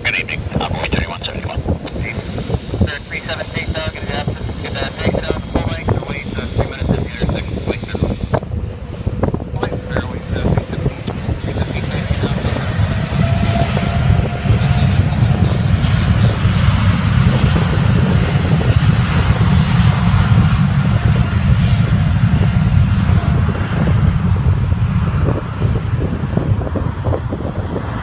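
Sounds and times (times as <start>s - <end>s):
jet engines at takeoff thrust: 0.0s - 28.0s.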